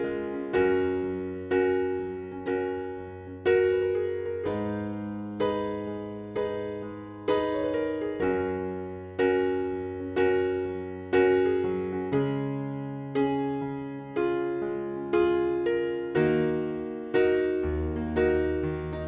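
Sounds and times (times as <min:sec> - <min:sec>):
electric piano chords: 0:00.0 - 0:19.0.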